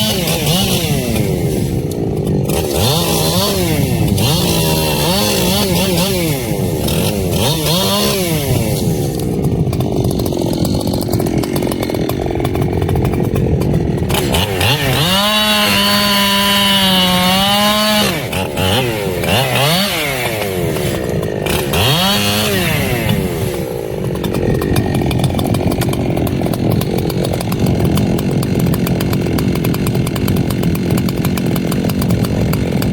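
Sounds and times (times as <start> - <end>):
chainsaw revving: 0.0 - 32.9
chainsaw sawing wood: 0.0 - 32.9.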